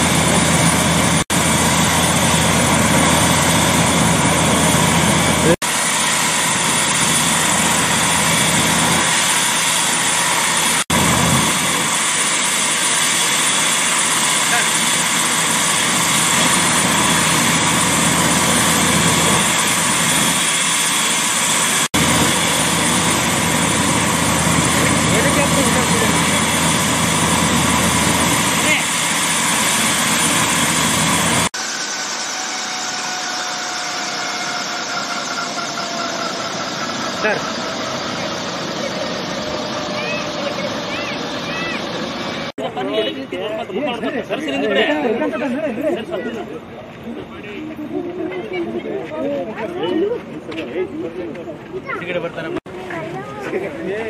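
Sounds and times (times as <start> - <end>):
helicopter turbine and rotor noise: 0.0 - 54.0.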